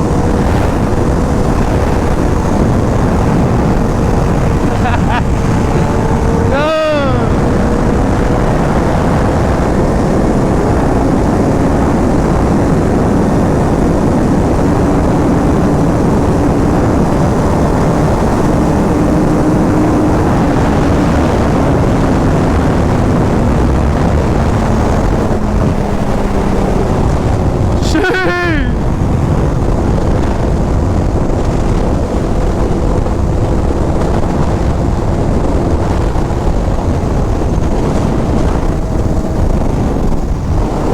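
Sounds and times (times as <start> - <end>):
motorcycle engine cruising: 0.0 - 40.9
wind rush on microphone: 0.0 - 40.9.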